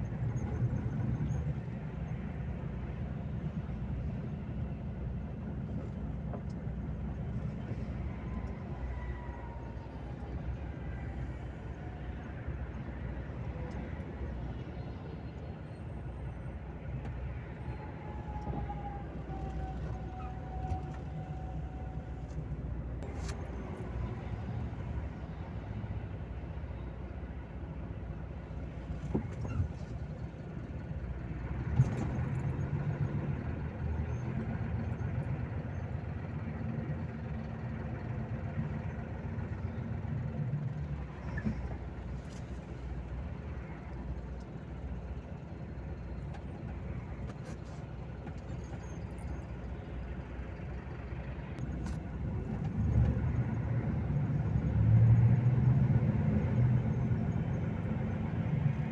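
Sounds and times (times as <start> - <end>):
truck engine droning: 0.0 - 58.9.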